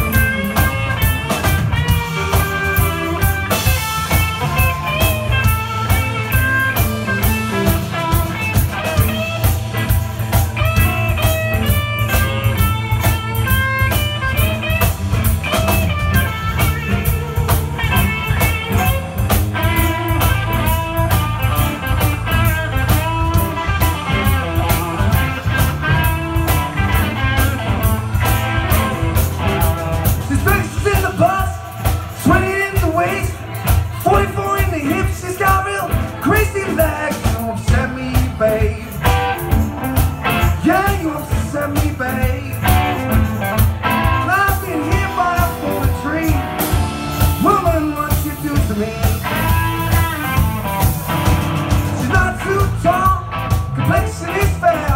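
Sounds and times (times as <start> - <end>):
bass guitar: 0.0 - 54.9
drum kit beat: 0.0 - 54.9
electric guitar: 0.0 - 54.9.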